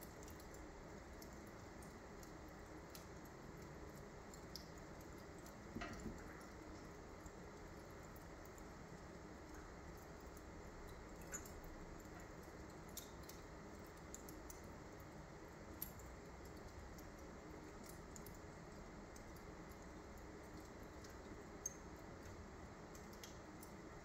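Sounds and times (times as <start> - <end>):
embers crackling and popping: 0.0 - 24.0
faint steady hiss: 0.0 - 24.0.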